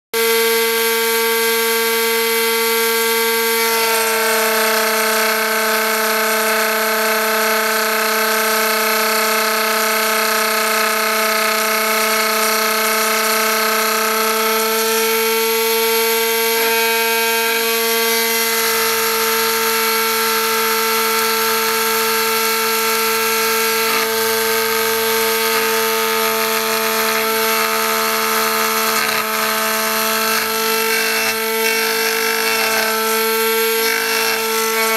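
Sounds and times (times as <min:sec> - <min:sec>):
mill spindle whining: 0:02.3 - 0:34.9.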